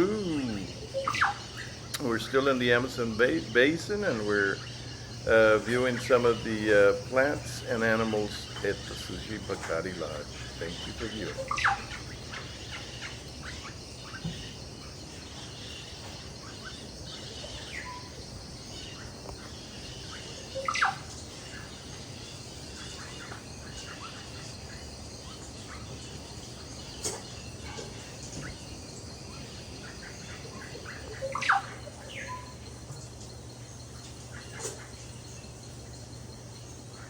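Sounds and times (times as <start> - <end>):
loud sweeping bird call: 0.0 - 32.7
small bird chirps: 0.0 - 37.0
steady background hum: 0.0 - 37.0.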